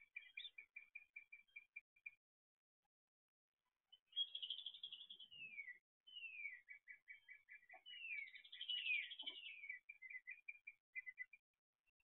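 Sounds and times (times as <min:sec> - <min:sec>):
songbirds singing: 0:00.0 - 0:02.3, 0:03.6 - 0:12.0.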